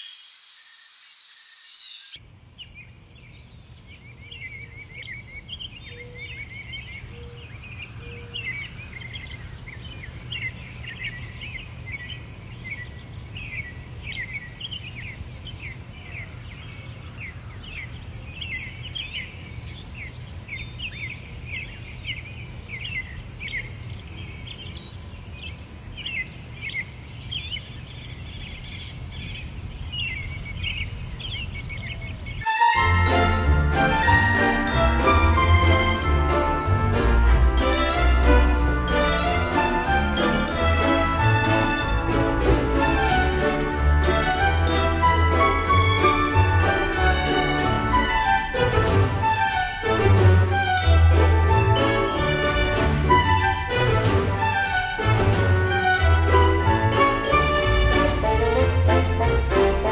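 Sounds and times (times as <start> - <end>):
songbirds chirping and singing: 0.0 - 36.6, 37.5 - 59.9.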